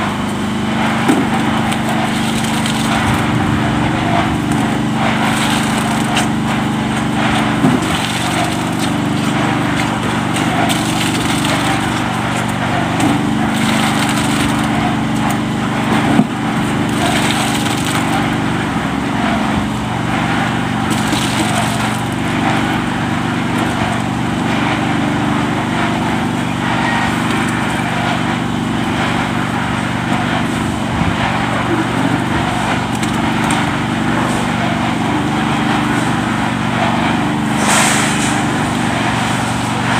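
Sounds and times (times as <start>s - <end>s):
small engine running: 0.0s - 39.9s
clatter and scraping: 0.2s - 39.9s.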